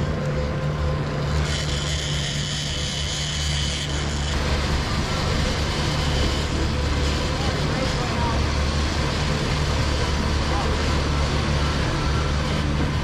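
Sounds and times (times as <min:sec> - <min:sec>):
boat engine humming: 0:00.0 - 0:13.0
high thin whine: 0:00.0 - 0:13.0.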